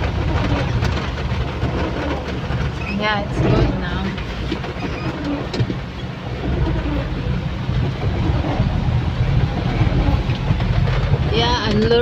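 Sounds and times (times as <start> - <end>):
engine and road rumble: 0.0 - 12.0
hiss of rain: 0.0 - 12.0.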